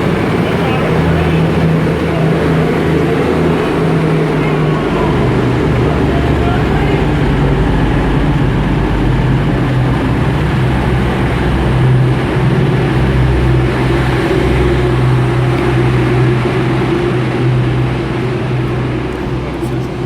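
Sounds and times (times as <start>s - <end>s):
diesel train engine humming: 0.0s - 20.0s.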